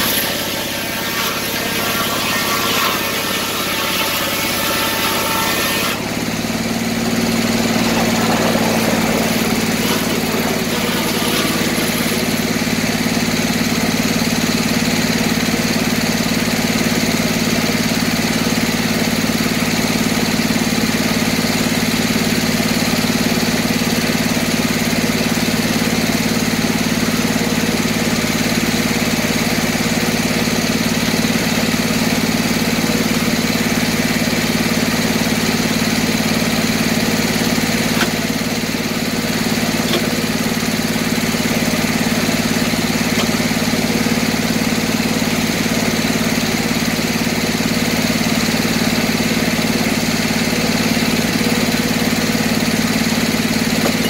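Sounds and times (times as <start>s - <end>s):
circular sawmill running: 0.0s - 54.0s.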